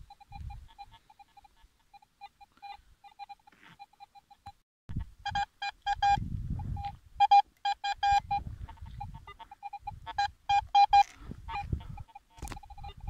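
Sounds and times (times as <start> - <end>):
metal detector beeping: 0.0 - 4.6, 5.2 - 13.0.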